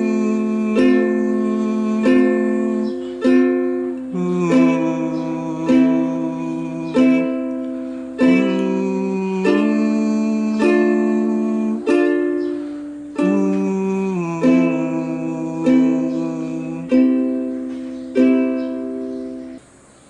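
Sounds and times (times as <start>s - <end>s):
ukulele strums: 0.0s - 19.6s.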